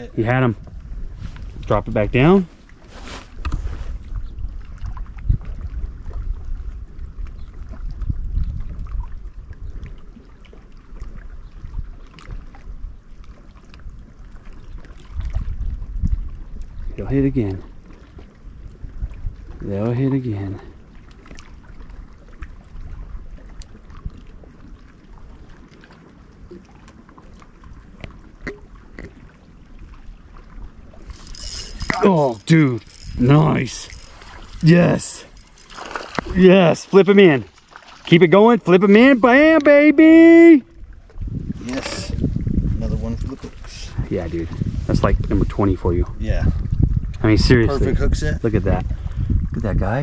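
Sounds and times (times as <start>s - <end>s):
boat engine low rumble: 0.0s - 50.0s
wind buffeting microphone: 0.0s - 50.0s.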